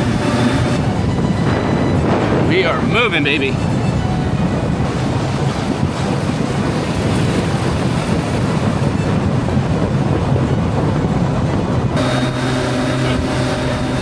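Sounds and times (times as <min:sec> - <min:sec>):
boat motor running: 0:00.0 - 0:14.0
rushing water: 0:00.0 - 0:14.0
wind buffeting microphone: 0:00.0 - 0:14.0.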